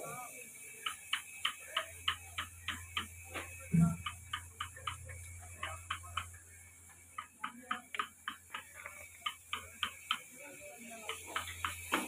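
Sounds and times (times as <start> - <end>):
sharp ticks: 0.7 - 12.0.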